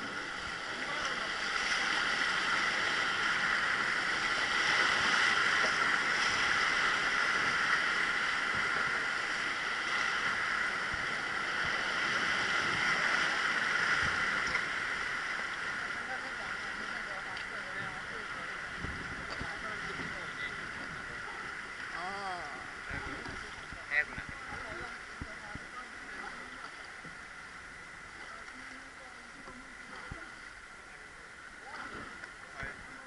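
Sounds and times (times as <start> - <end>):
rushing river water: 0.0 - 33.0.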